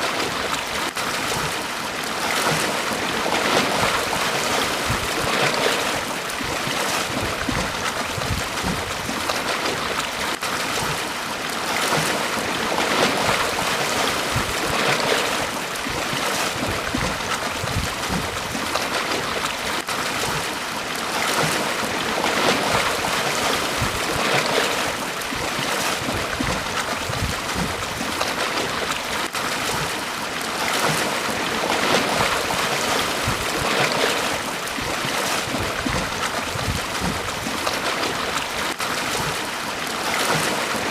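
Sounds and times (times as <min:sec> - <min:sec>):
waves washing up a beach: 0:00.0 - 0:40.9.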